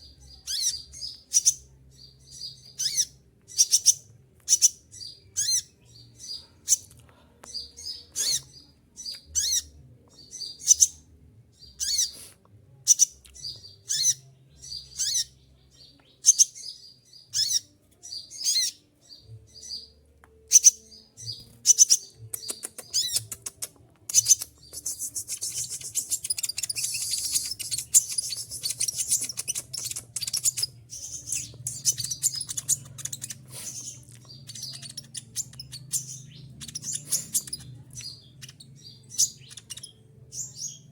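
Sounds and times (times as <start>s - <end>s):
sunbird high calls and twittering: 0.0s - 6.9s, 7.5s - 12.2s, 12.9s - 40.9s.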